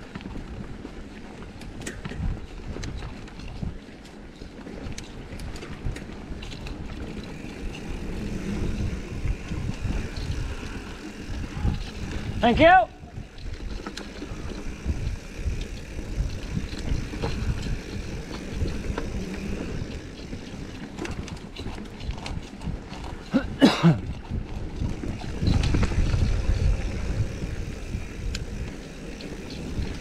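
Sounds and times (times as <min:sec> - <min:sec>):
bike rattling and clicking: 0:00.0 - 0:30.0
bike tyres rolling on dirt: 0:00.0 - 0:30.0
wind rumbling on microphone: 0:00.0 - 0:30.0.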